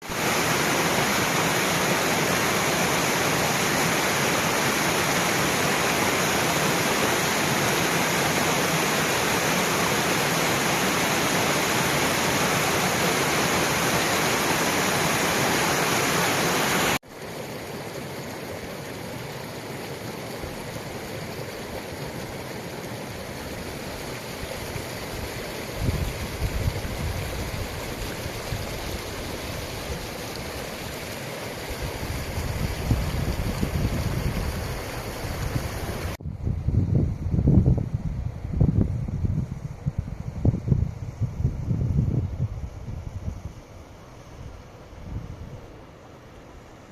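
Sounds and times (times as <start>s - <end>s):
mountain stream rushing: 0.0s - 36.2s, 43.6s - 46.9s.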